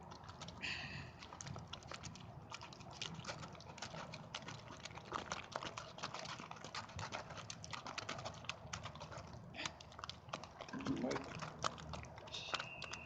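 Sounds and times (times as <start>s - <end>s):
slime stirred with stick: 0.0s - 13.0s.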